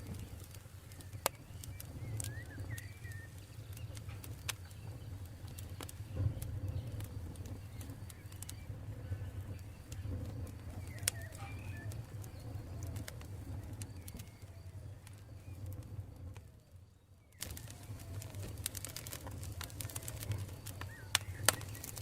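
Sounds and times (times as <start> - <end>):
loud pop of fire: 0.0 - 16.6, 17.3 - 22.0
campfire crackling: 0.0 - 22.0.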